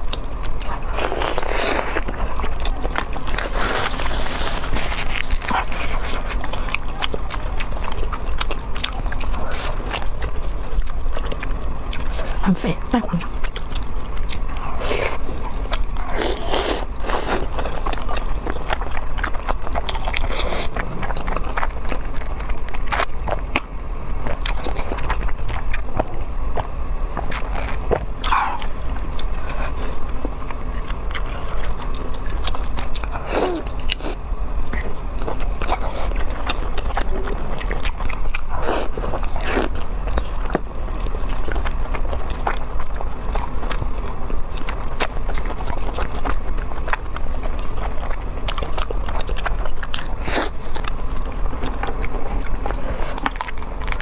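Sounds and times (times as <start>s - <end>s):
chewing and biting: 0.0s - 54.0s
steady low hum: 0.0s - 54.0s.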